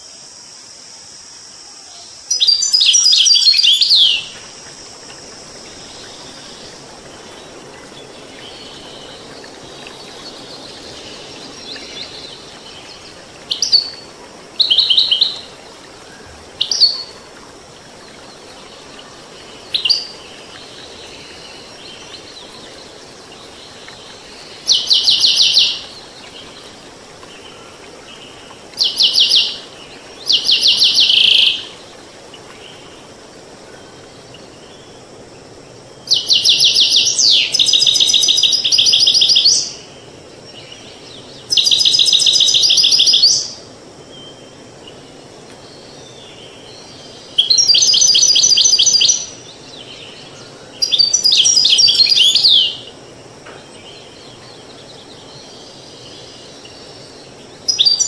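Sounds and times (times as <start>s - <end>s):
stream rushing: 2.4s - 58.0s.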